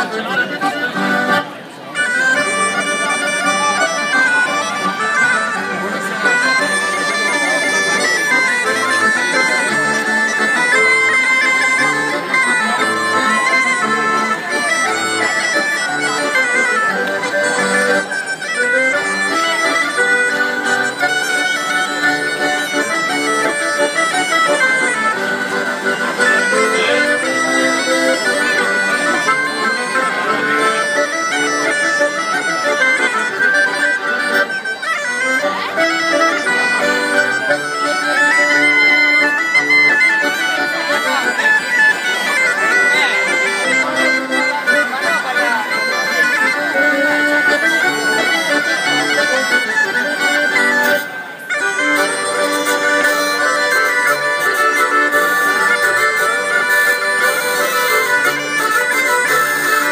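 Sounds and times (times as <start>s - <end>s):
folk dance band playing: 0.0s - 59.9s.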